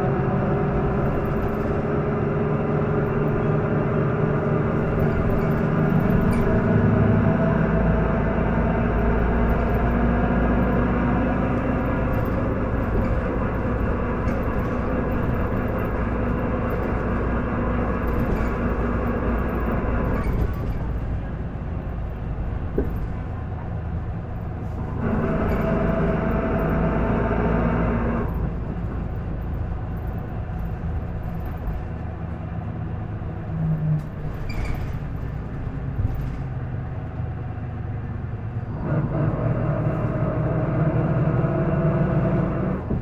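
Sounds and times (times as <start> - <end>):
bus diesel engine under load: 0.0 - 43.0.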